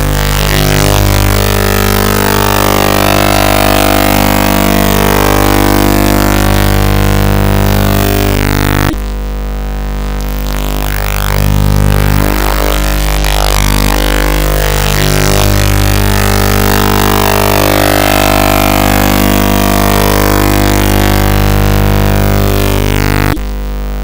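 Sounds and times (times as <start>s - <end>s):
loud electronic music: 0.0s - 9.0s, 10.2s - 23.5s.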